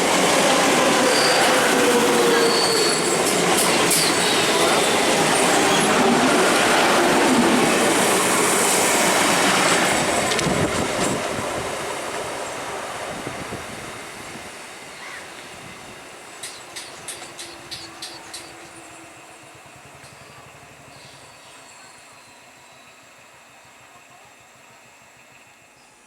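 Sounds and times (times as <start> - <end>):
train running on rails: 0.0 - 26.0.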